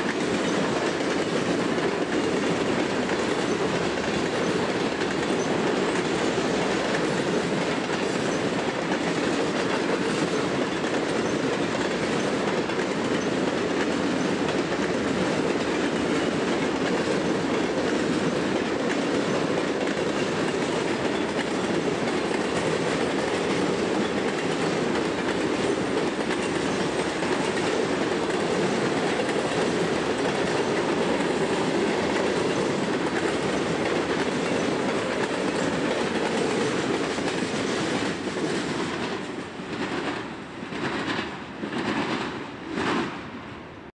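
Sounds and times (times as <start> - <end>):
train wheels rolling on rails: 0.0 - 43.9.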